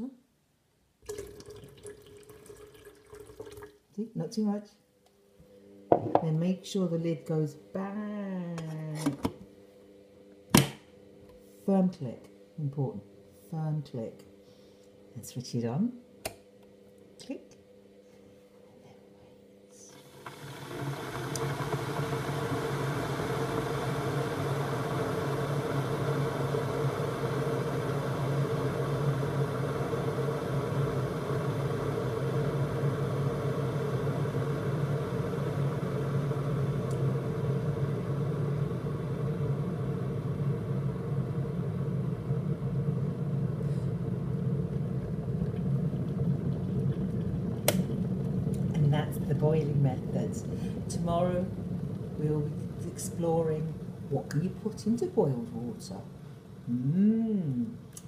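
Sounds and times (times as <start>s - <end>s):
electric kettle rumbling and hissing: 1.0s - 4.6s, 5.4s - 58.0s.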